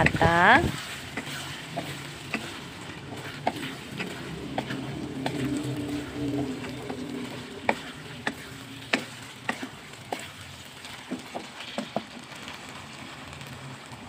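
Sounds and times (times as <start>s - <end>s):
food sizzling in a wok: 0.0s - 14.0s
spatula tapping a wok: 1.0s - 12.4s.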